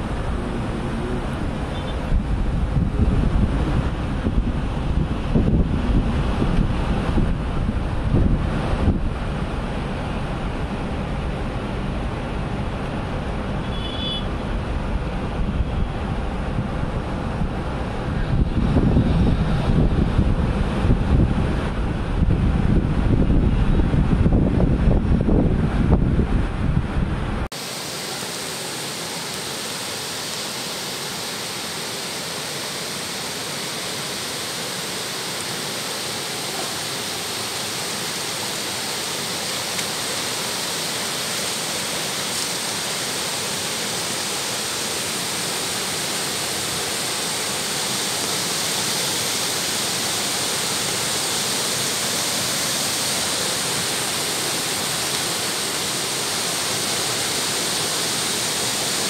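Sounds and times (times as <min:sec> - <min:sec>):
floodwater rushing: 0:00.0 - 0:24.2, 0:27.5 - 0:59.0.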